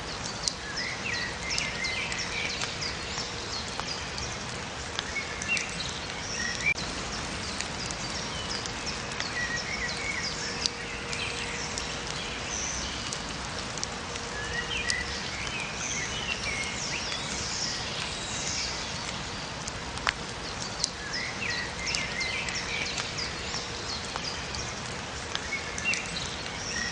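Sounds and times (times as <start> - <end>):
rain falling: 0.0 - 26.9
sharp drip: 0.2 - 26.9.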